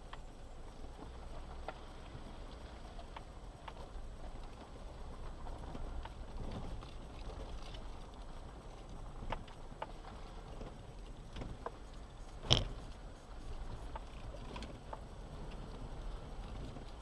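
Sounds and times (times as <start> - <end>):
vehicle rumbling over rough track: 0.0 - 17.0.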